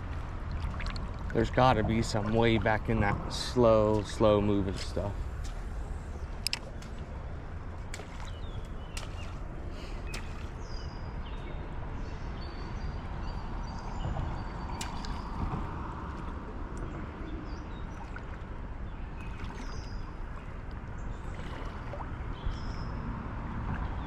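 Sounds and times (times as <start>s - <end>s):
creek water running over rocks: 0.0s - 11.2s, 13.6s - 22.6s.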